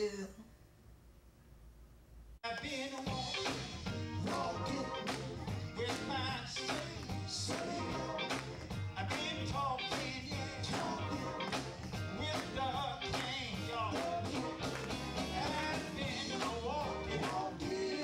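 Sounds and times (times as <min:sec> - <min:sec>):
male voices singing gospel: 0:02.4 - 0:18.0
drum kit steady beat: 0:03.0 - 0:18.0
electric bass: 0:03.1 - 0:18.0.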